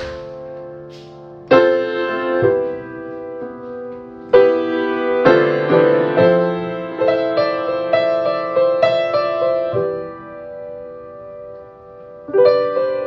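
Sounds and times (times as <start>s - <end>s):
piano chords and notes: 0.0s - 13.0s.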